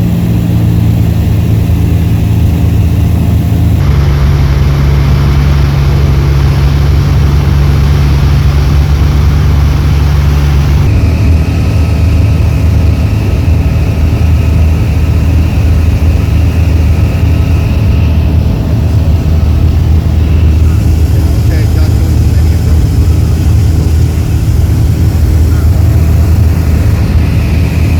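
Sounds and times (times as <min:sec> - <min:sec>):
light aircraft engine and propeller: 0:00.0 - 0:27.9.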